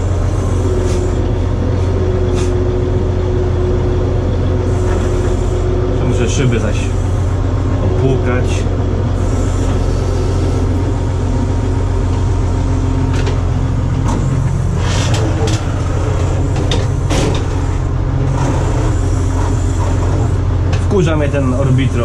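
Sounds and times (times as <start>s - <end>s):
diesel engine running: 0.0s - 22.0s
hydraulic steering hissing: 0.0s - 22.0s.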